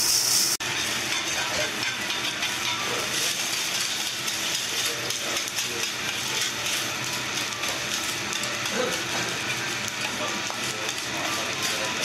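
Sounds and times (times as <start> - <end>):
eggs sizzling on a griddle: 0.0 - 12.0
metal spatulas scraping griddle: 0.7 - 12.0.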